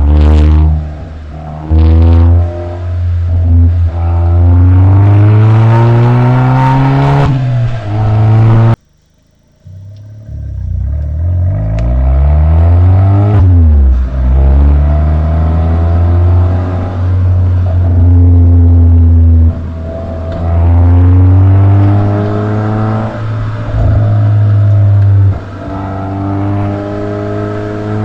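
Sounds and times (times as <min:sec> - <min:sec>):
car exhaust accelerating hard: 0:00.0 - 0:08.8, 0:09.6 - 0:28.0.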